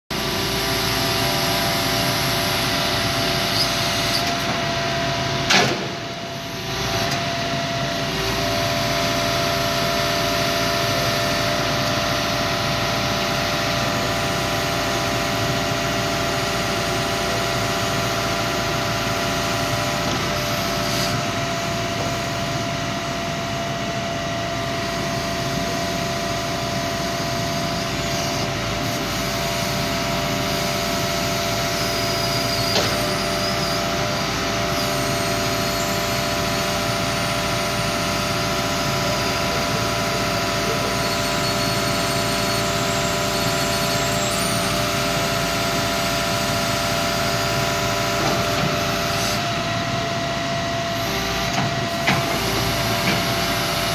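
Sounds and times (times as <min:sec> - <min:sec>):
diesel engine hum: 0:00.1 - 0:53.9
hydraulic whine: 0:00.1 - 0:53.9.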